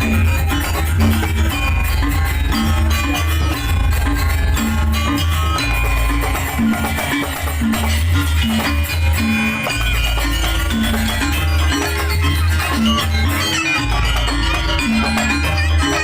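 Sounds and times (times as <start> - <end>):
percussive ensemble music: 0.0 - 16.0
pulsing bass line: 0.0 - 16.0.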